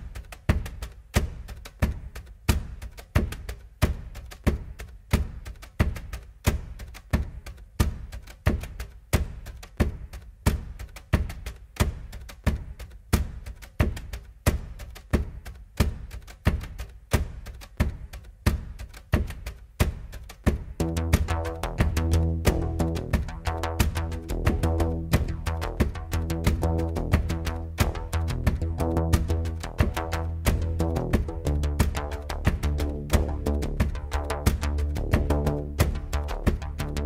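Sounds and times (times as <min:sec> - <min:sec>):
background music with percussive beat: 0:00.0 - 0:37.0.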